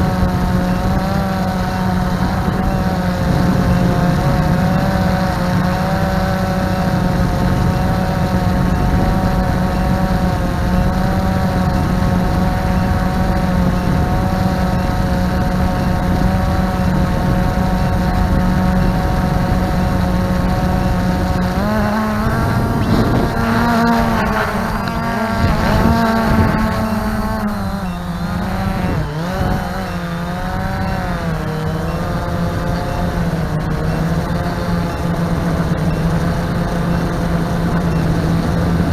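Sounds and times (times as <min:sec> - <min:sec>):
drone propellers whining: 0:00.0 - 0:38.9.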